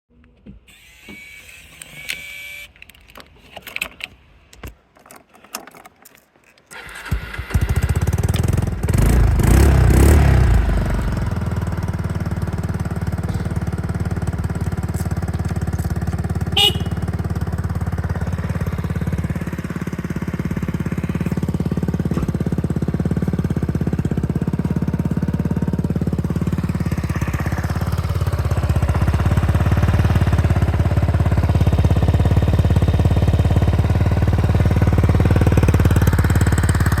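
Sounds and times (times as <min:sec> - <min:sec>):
scooter engine starting and idling: 0:06.7 - 0:37.0.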